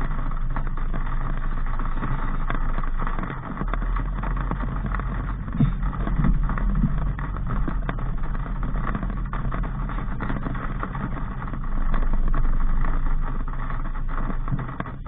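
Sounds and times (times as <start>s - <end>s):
car engine and road rumble: 0.0s - 15.0s
low thumps: 0.0s - 15.0s.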